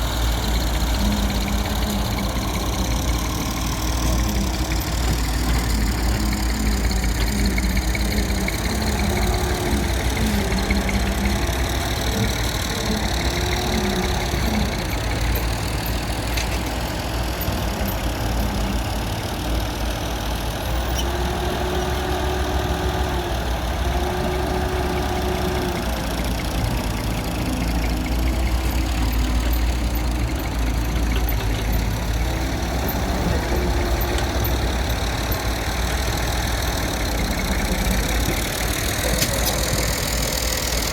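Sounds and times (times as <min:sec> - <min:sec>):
diesel excavator engine: 0:00.0 - 0:40.9.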